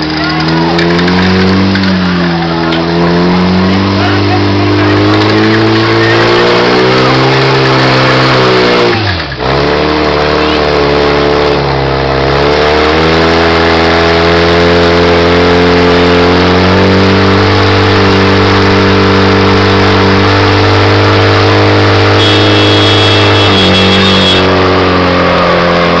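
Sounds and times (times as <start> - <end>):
pump engine running at high revs: 0.0 - 26.0.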